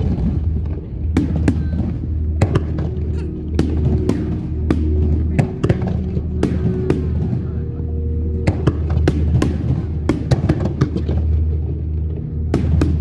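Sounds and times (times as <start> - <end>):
background music: 0.0 - 13.0
low rumble: 0.0 - 13.0.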